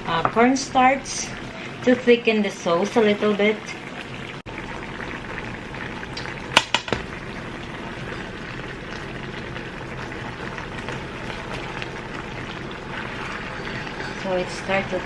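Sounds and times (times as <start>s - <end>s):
sauce simmering and bubbling: 0.6s - 15.0s.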